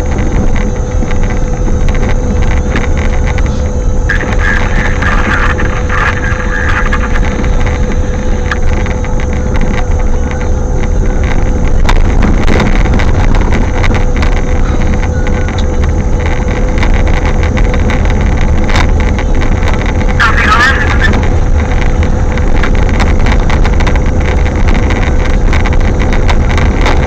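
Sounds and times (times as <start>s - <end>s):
steady hum tone: 0.0s - 27.0s
wind buffeting microphone: 0.0s - 27.0s.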